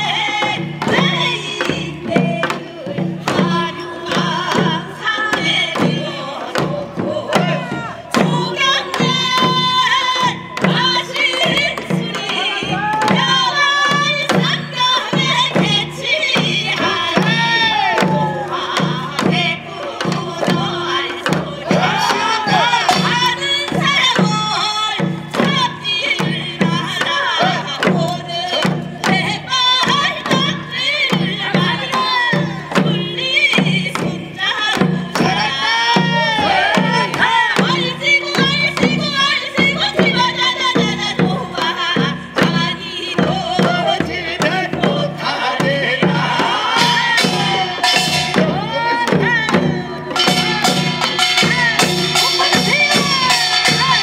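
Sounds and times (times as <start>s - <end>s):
drums beating: 0.0s - 54.0s
sharp percussion strikes: 0.0s - 54.0s.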